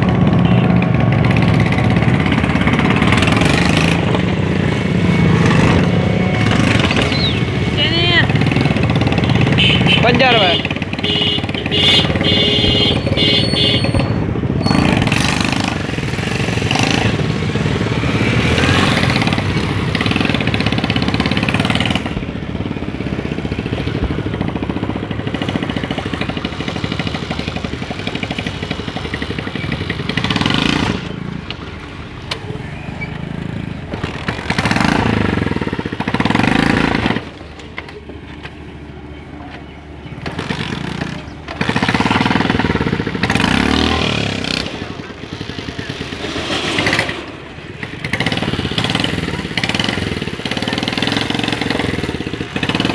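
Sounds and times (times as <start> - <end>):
motorcycle engine: 0.0 - 52.9
vehicle engines passing: 0.0 - 52.9.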